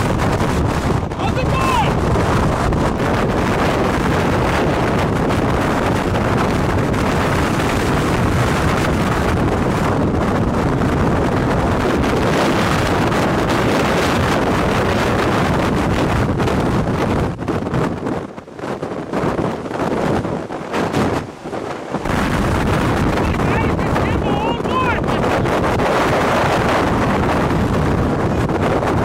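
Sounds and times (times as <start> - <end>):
wind blowing across microphone: 0.0 - 29.0.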